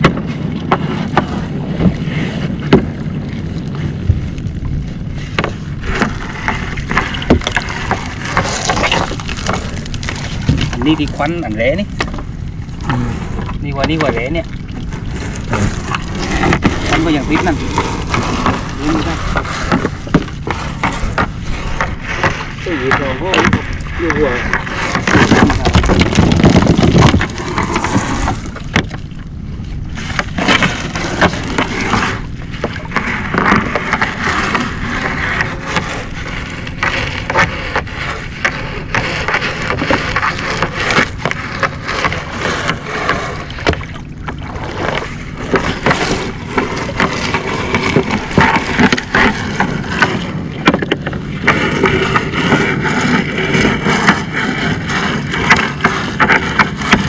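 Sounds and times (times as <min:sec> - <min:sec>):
boat engine running: 0:00.0 - 0:57.0
knocks and rattles of net: 0:05.2 - 0:29.0, 0:30.0 - 0:57.0.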